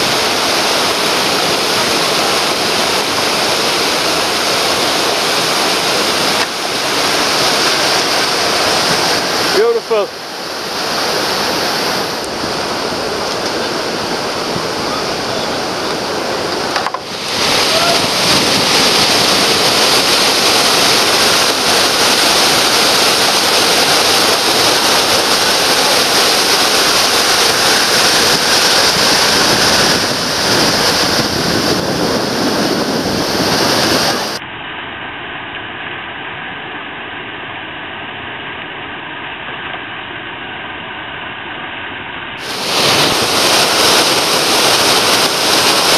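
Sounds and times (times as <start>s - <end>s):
river rapids rushing: 0.0s - 34.4s, 42.4s - 45.9s.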